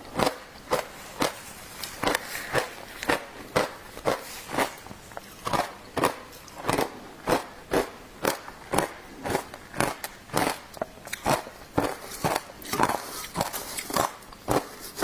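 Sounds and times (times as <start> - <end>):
ice crunching between teeth: 0.1 - 15.0.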